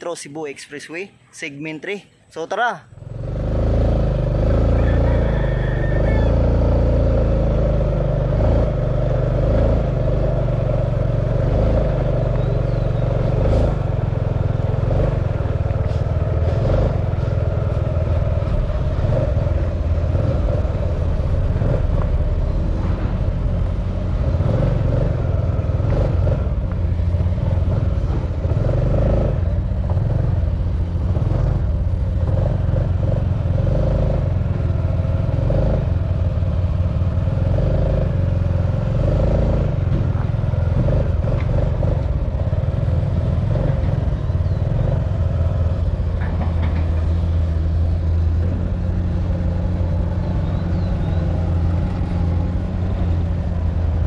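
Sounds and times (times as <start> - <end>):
vehicle driving on dirt road: 2.9 - 54.0.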